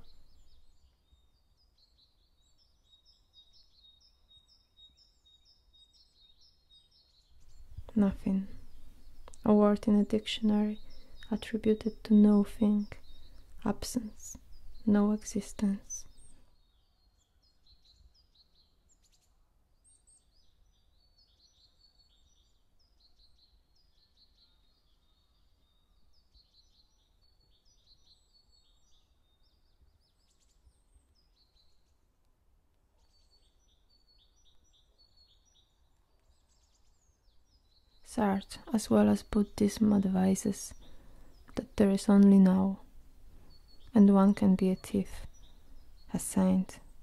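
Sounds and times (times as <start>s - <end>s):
faint low background noise: 0.0s - 47.0s
small birds chirping: 0.0s - 47.0s.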